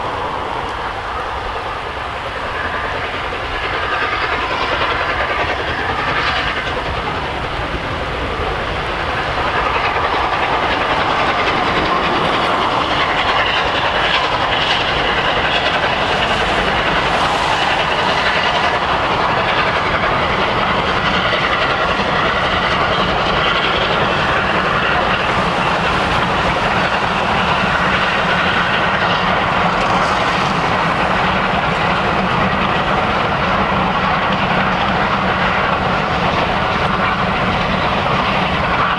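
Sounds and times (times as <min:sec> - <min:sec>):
steam locomotive running: 0:00.0 - 0:38.9.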